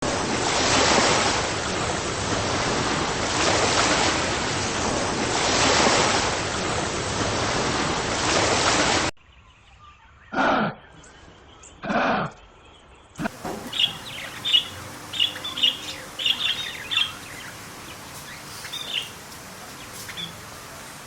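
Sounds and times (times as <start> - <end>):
waves washing ashore: 0.0 - 9.1, 13.2 - 21.0.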